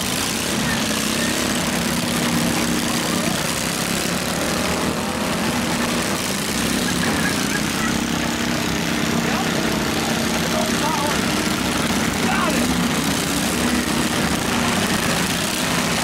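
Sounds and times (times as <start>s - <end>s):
small tractor engines droning: 0.0s - 16.0s.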